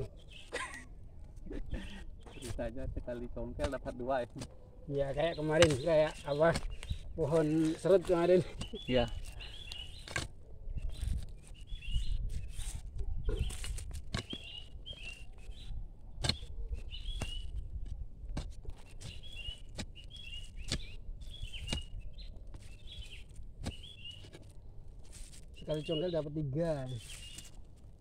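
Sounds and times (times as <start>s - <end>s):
bird chirping: 0.0s - 18.0s, 18.7s - 27.8s
crowbar knocking and scraping soil: 1.8s - 11.6s, 12.3s - 28.0s.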